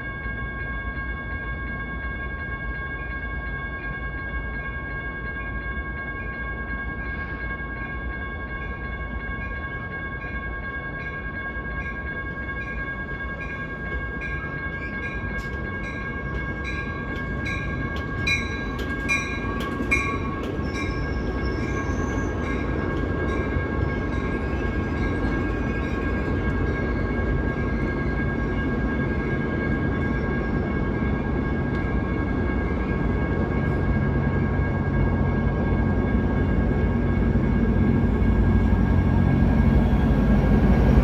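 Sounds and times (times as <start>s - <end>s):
crossing bell ringing: 0.0s - 41.0s
train rumbling and clicking: 0.0s - 41.0s.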